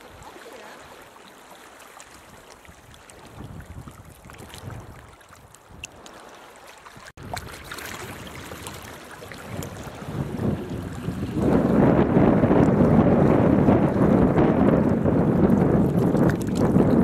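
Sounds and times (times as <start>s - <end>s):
wind buffeting microphone: 2.1s - 6.0s, 6.9s - 17.0s.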